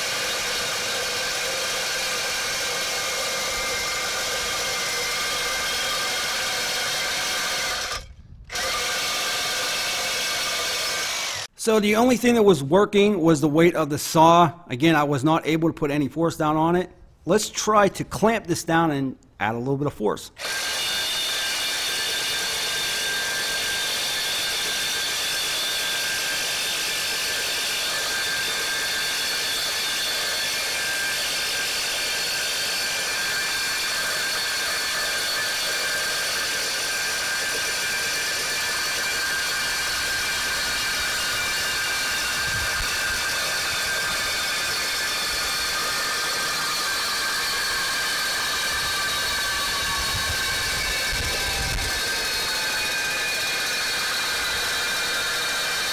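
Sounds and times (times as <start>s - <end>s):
reciprocating saw cutting metal: 0.0s - 11.6s, 20.4s - 55.9s.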